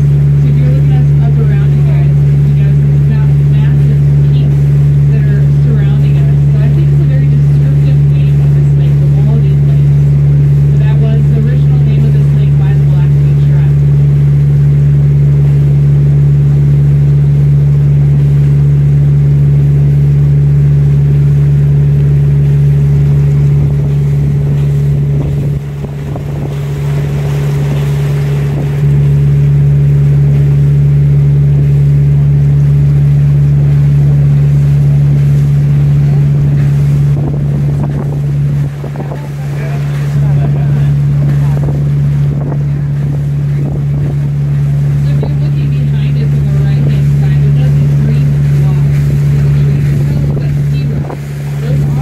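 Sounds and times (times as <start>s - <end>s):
boat engine droning: 0.0s - 52.0s
rushing water: 0.0s - 52.0s
wind: 0.0s - 52.0s.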